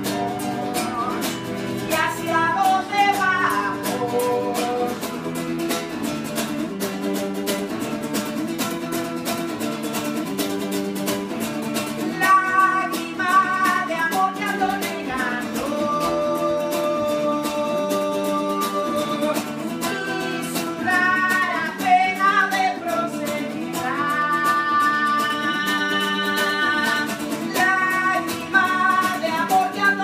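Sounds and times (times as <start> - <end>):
strummed guitar chords: 0.0 - 30.0.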